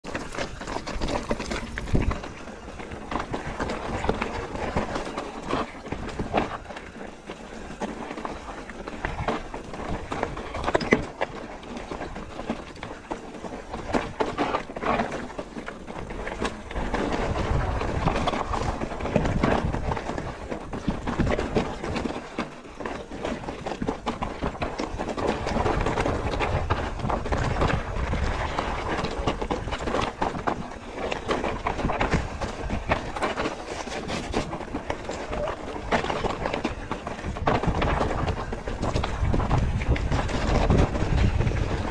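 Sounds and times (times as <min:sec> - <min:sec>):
bike rattling: 0:00.0 - 0:41.9
tyres crunching over stones: 0:00.0 - 0:41.9.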